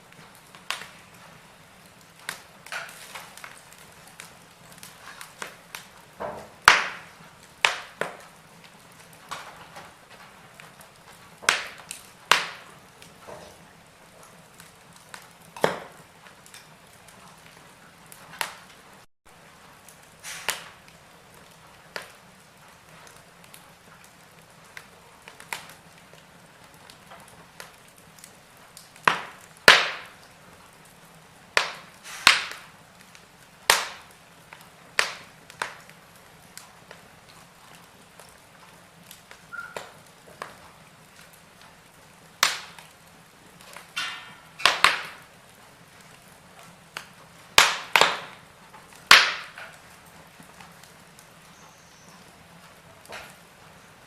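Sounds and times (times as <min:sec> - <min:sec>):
soft steady hiss: 0:00.0 - 0:54.0
wood fire crackling: 0:00.0 - 0:54.0.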